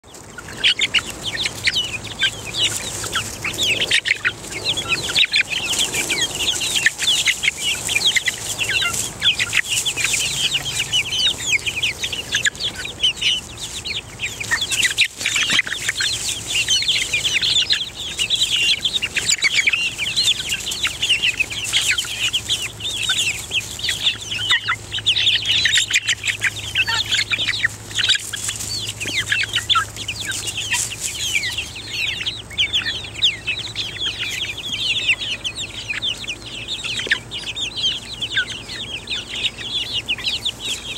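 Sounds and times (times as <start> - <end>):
chicks peeping and chirping: 0.0 - 40.9.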